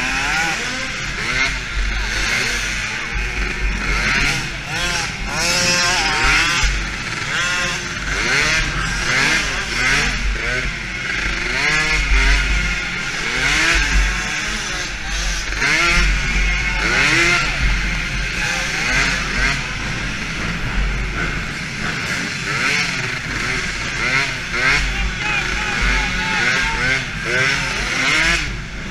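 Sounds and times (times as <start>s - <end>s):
quad engine revving: 0.0s - 28.9s.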